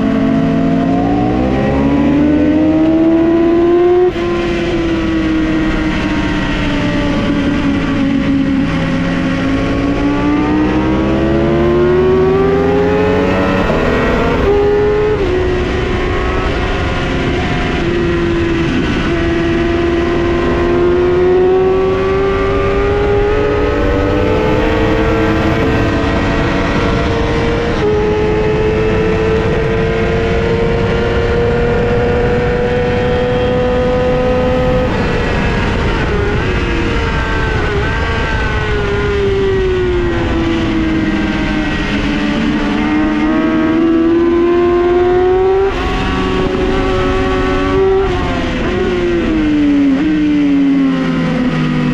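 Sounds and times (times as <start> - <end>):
motorcycle engine at high revs: 0.0 - 51.9.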